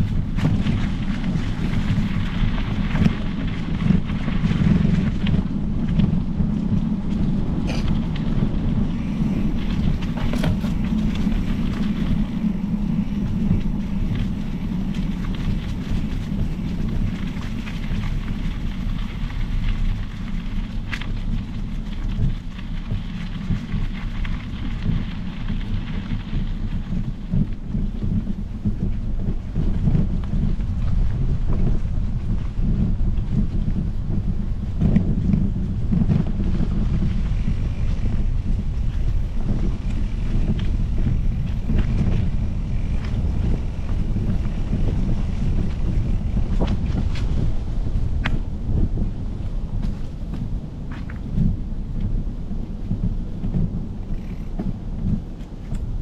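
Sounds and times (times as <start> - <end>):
bike tyres crackling on trail: 0.0 - 56.0
wind buffeting microphone: 0.0 - 56.0.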